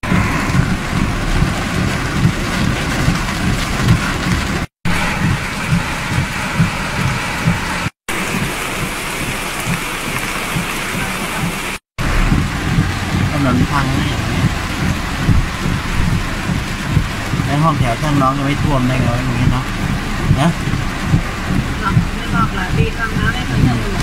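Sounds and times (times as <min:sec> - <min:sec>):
low rumble: 0:00.0 - 0:09.7, 0:12.0 - 0:24.0
heavy rain on car roof: 0:00.0 - 0:24.0.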